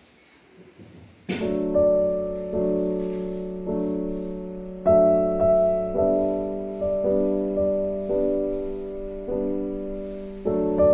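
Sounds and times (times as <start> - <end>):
slow piano chords: 1.3 - 10.9.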